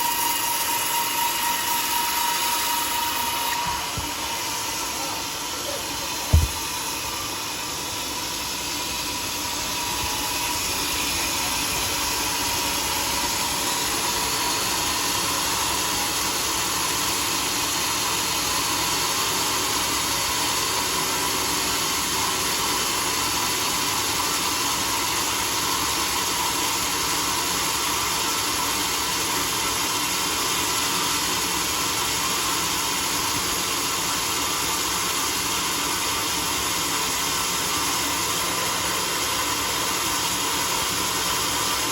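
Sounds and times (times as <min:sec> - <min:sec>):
sawmill sawing log: 0:00.0 - 0:41.9.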